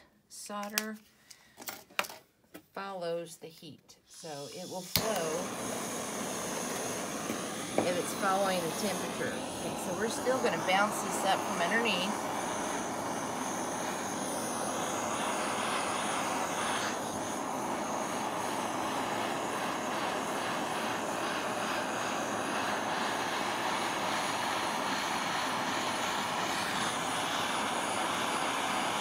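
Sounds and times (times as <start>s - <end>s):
gas torch flame burning: 4.2s - 29.0s.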